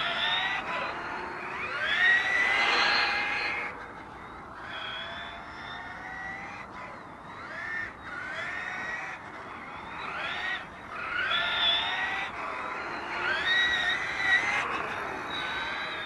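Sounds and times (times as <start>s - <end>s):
rc car motors whining: 0.0s - 16.0s.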